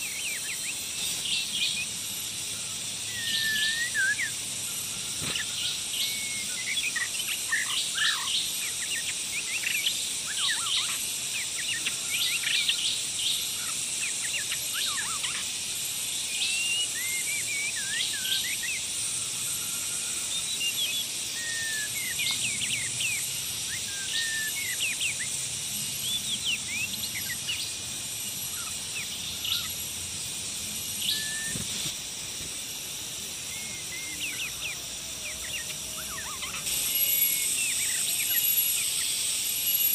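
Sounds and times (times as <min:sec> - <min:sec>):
bird singing whistles and chirps: 0:00.0 - 0:29.8, 0:30.9 - 0:32.0, 0:33.4 - 0:39.9
high-pitched insect drone: 0:00.0 - 0:39.9.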